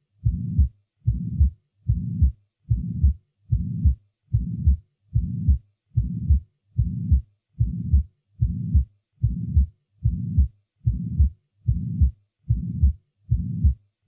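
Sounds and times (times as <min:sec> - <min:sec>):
heart sounds: 0:00.2 - 0:13.8
low-pitched heart murmur: 0:00.2 - 0:13.8.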